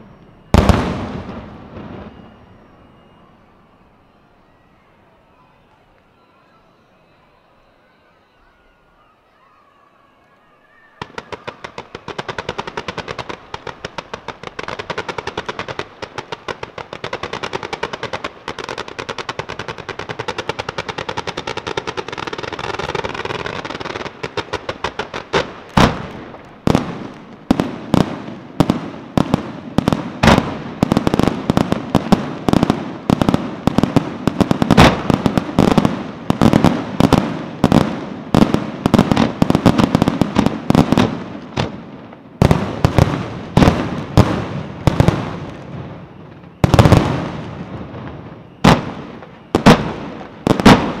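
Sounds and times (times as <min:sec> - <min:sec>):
fireworks cracking and banging: 0:00.0 - 0:04.2, 0:10.7 - 0:51.0.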